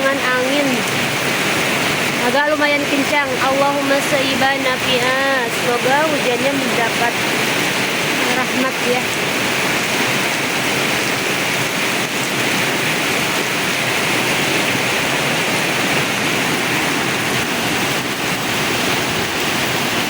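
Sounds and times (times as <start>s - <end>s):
heavy rain pouring: 0.0s - 20.0s
strong wind: 0.0s - 20.0s.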